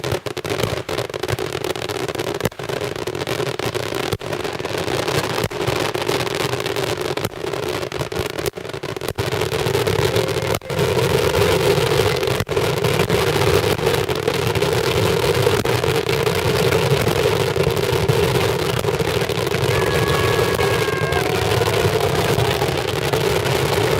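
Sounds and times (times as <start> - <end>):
fireworks barrage: 4.0 - 23.9.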